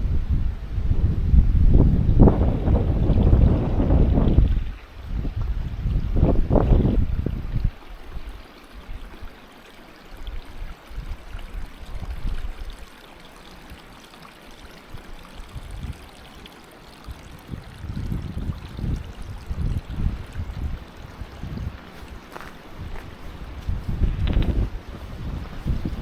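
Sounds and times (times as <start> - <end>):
wind rumble on microphone: 0.0 - 9.4, 10.2 - 13.0, 14.9 - 26.0
small waterfall splashing: 2.3 - 26.0.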